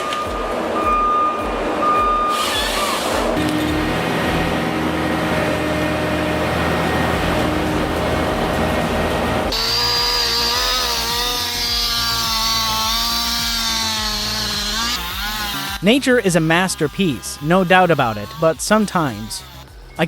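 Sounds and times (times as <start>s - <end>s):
power saw cutting wood: 2.2s - 20.0s
engine-driven saw: 2.3s - 19.8s.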